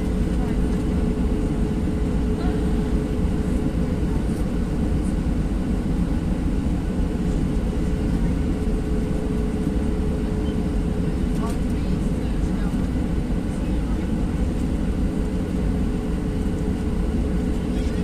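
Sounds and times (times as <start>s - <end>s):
constant low hum: 0.0s - 18.0s
rush of engines and airflow: 0.0s - 18.0s.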